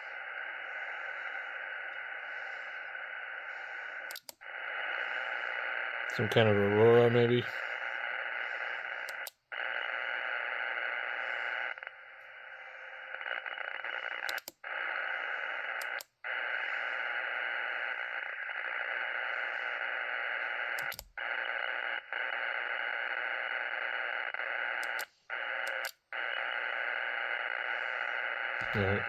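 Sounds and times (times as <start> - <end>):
radio clicks: 0.0 - 29.0
radio interference hiss: 0.0 - 29.0.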